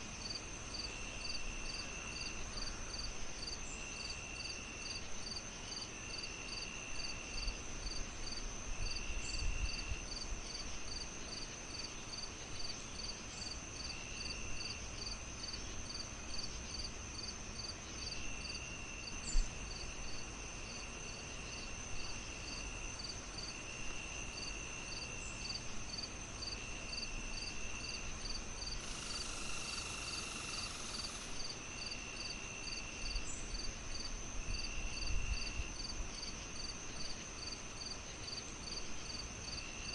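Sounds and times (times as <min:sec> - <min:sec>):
crickets chirping: 0:00.0 - 0:39.9
high insect drone: 0:00.0 - 0:39.9
insect trills: 0:00.2 - 0:39.9.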